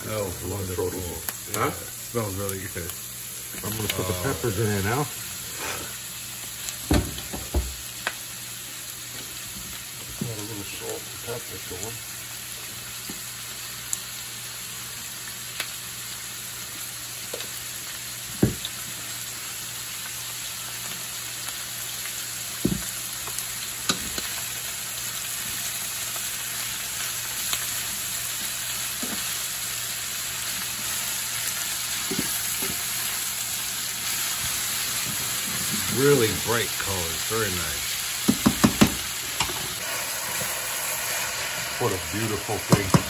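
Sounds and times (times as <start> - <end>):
vegetables sizzling in skillet: 0.0 - 43.0.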